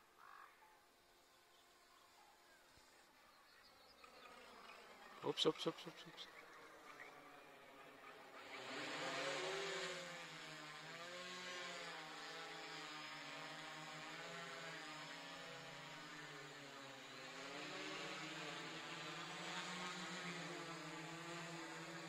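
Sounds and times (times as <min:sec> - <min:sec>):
model plane propeller buzz: 0:01.2 - 0:22.0.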